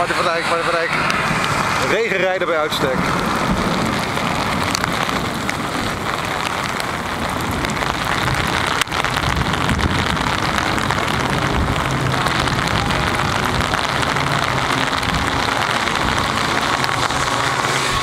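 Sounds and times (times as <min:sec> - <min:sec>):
heavy rain on wet track: 0:00.0 - 0:18.0.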